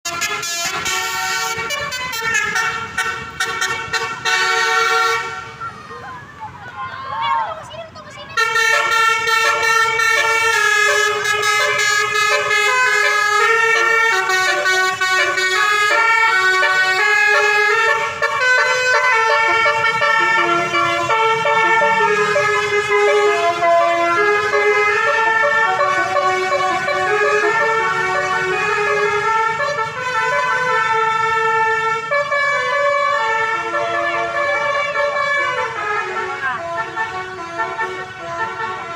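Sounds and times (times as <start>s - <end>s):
bus air horn playing a tune: 0.0s - 5.6s, 8.4s - 38.9s.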